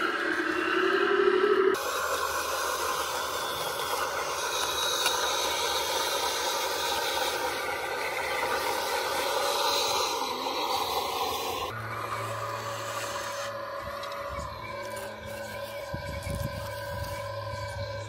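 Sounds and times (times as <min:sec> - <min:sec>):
hydraulic pump whine: 0:00.0 - 0:18.0.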